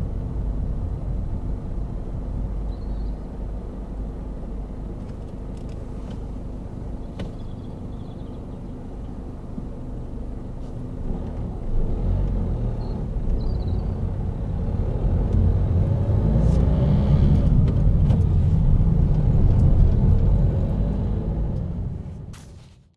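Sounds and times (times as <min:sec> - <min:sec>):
car engine and road noise: 0:00.0 - 0:22.9.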